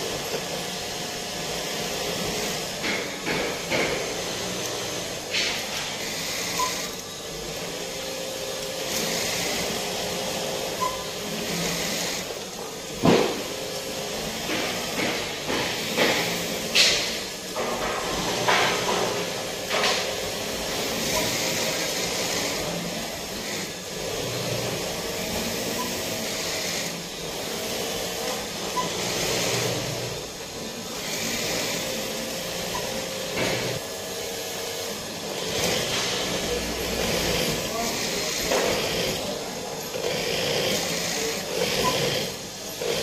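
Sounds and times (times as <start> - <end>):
industrial sewing machine stitching: 0.0 - 43.0
workshop mechanical hum: 0.0 - 43.0.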